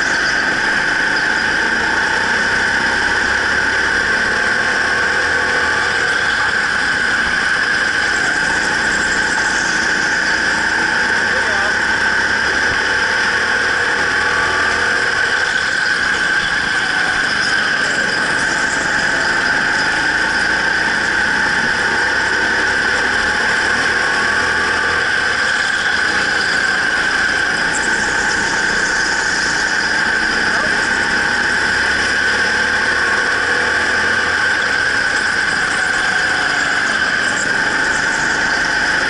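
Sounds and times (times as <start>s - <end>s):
go-kart high-pitched squeal: 0.0s - 39.0s
go-kart low running rumble: 0.0s - 39.0s.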